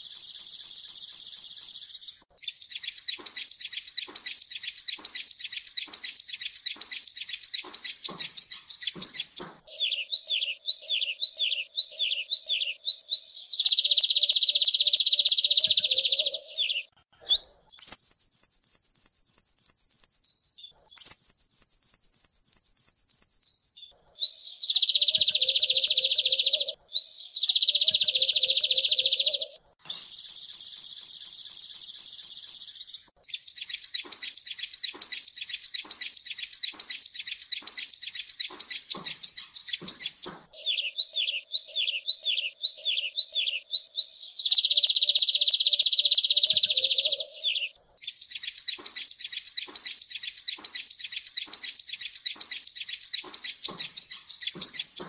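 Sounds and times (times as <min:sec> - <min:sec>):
sunbird singing buzzy trills: 0:00.0 - 0:55.0.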